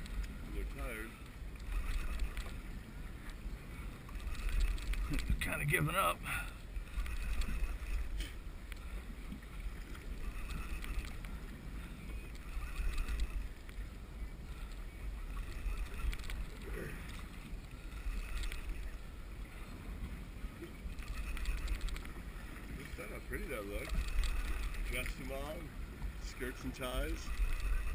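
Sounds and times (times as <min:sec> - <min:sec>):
wind noise on microphone: 0:00.0 - 0:05.9, 0:06.7 - 0:22.9, 0:23.6 - 0:27.9.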